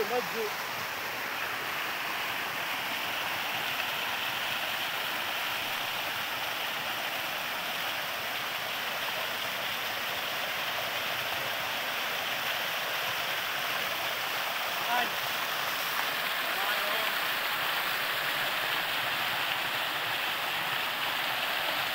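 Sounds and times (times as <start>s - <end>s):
waterfall splashing on rock: 0.0s - 21.9s.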